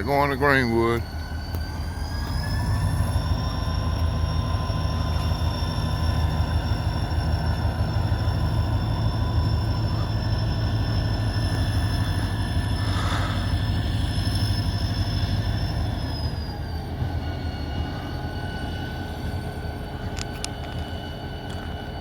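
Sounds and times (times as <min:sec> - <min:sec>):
freight train rumbling past: 0:00.0 - 0:22.0
high whining tones: 0:00.0 - 0:22.0.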